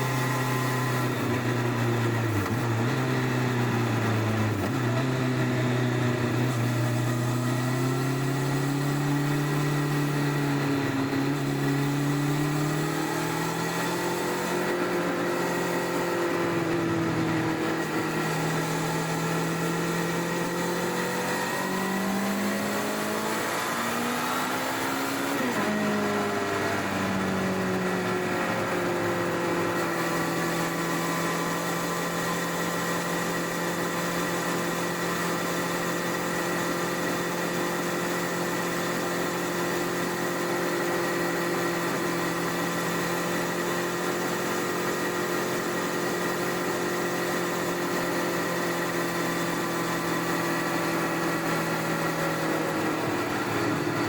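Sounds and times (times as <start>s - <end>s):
motorcycle engine under way: 0.0s - 54.0s.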